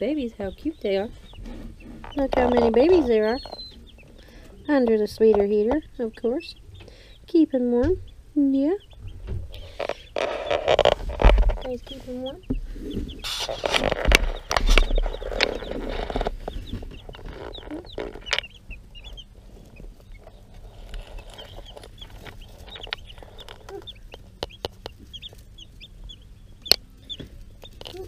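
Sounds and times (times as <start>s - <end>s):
chicks peeping: 0.0s - 28.0s
rustling and bumps: 0.6s - 5.8s, 9.0s - 26.2s.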